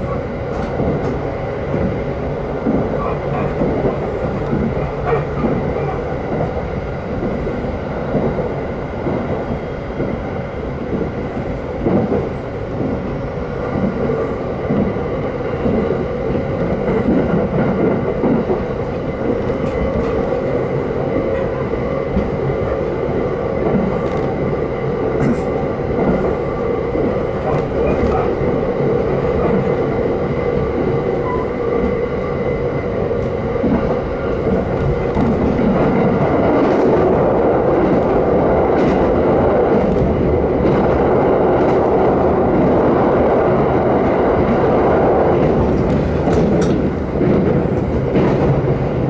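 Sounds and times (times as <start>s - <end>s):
low clacks from the track: 0.0s - 49.0s
train hum: 0.0s - 49.0s
train wheels rumbling on rail: 0.0s - 49.0s.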